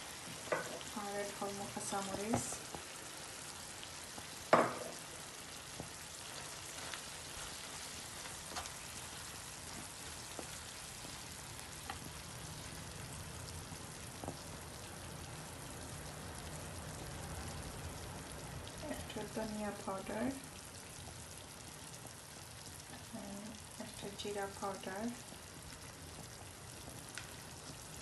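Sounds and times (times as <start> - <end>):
meat sizzling in a pan: 0.0 - 28.0.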